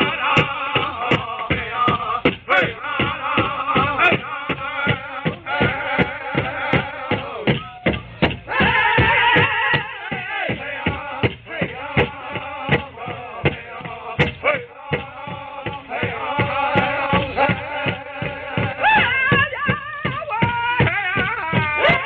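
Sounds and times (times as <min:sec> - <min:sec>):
group singing: 0:00.0 - 0:22.0
large drum beating: 0:00.0 - 0:22.0.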